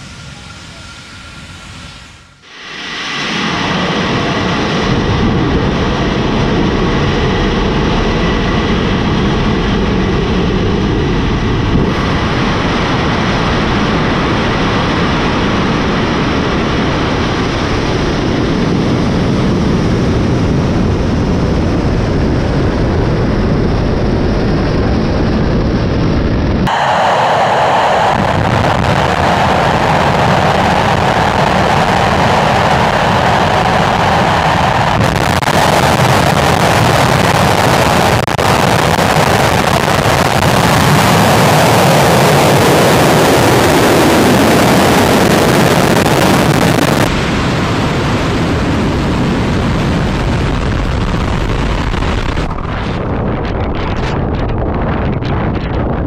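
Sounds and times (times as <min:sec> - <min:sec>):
rocket engine exhaust roar: 0:00.0 - 0:56.0.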